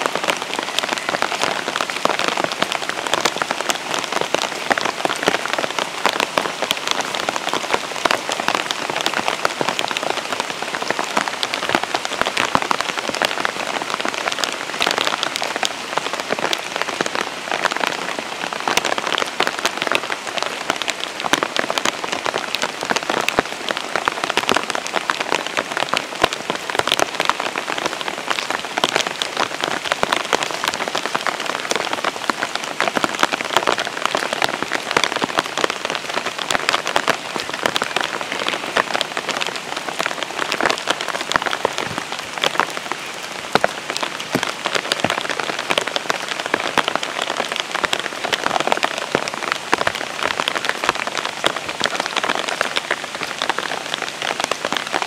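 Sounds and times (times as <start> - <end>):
steady rain with raindrop taps: 0.0 - 55.0.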